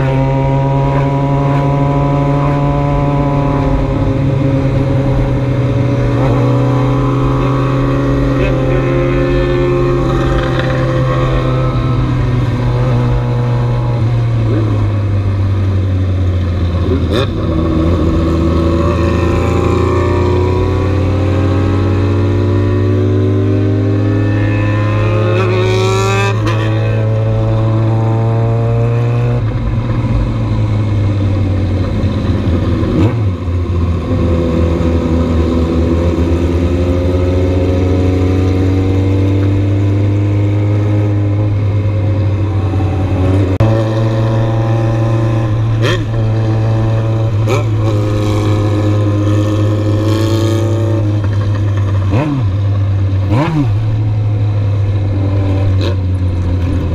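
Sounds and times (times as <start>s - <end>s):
motorcycle engine at road speed: 0.0s - 56.9s.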